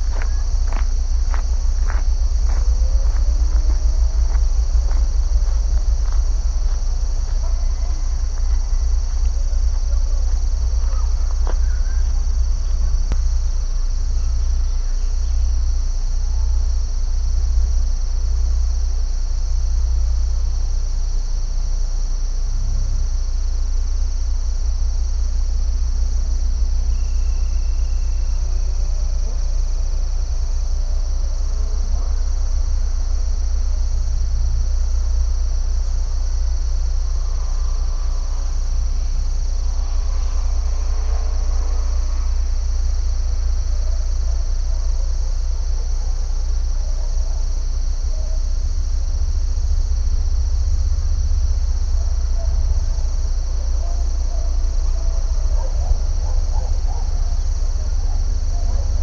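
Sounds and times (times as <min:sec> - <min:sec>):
insects shrilling: 0:00.0 - 0:16.8, 0:24.2 - 0:59.0
deep steady rumble: 0:00.0 - 0:59.0.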